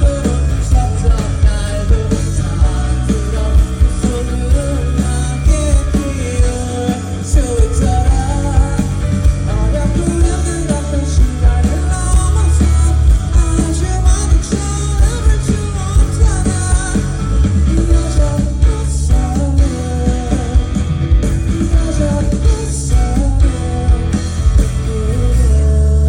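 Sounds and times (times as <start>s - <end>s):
live pop-rock band: 0.0s - 26.0s.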